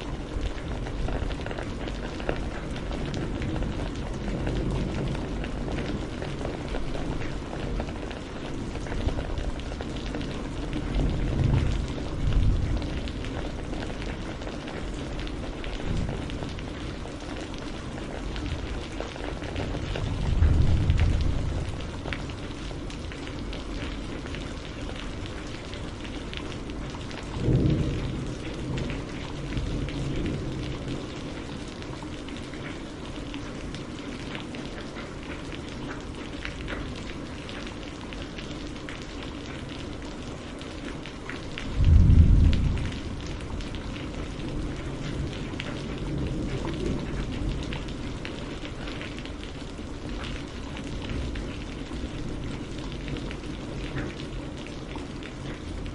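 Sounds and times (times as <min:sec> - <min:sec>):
thunder rumbles: 0:00.0 - 0:32.7, 0:41.2 - 0:55.9
rain pattering: 0:00.0 - 0:55.9.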